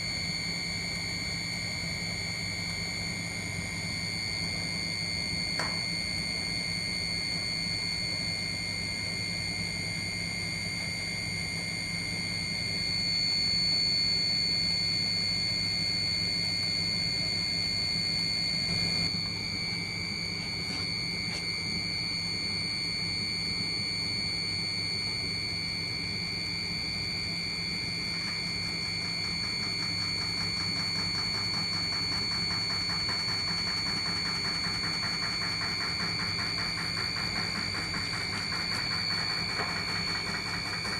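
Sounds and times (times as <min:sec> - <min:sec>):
motor hum with high whine: 0:00.0 - 0:40.9.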